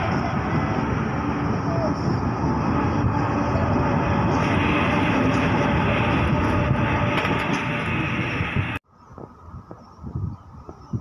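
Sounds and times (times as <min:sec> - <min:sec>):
train wheels rumbling on rail: 0:00.0 - 0:08.8.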